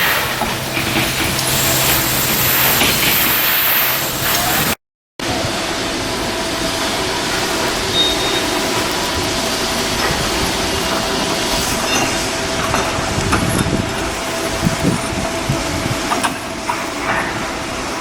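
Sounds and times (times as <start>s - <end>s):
heavy machinery whining: 0.0s - 18.0s.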